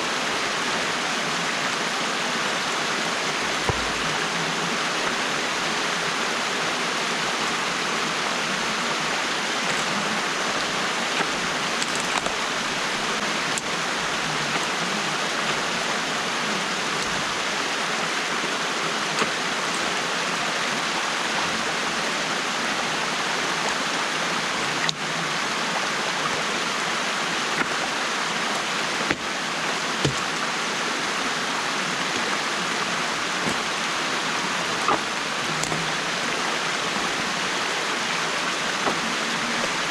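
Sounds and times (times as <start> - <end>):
water rushing through dam: 0.0 - 39.9.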